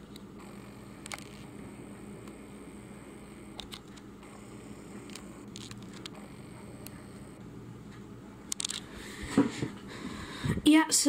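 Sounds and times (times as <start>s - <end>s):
low hum: 0.0s - 10.6s.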